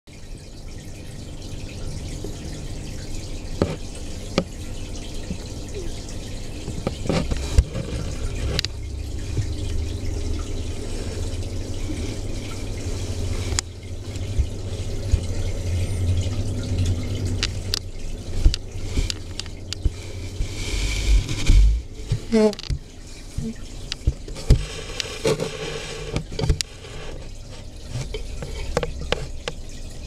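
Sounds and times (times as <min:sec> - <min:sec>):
water splashes: 0:00.1 - 0:30.0
water trickling and dripping: 0:00.1 - 0:30.0
steady low hum: 0:05.3 - 0:29.6.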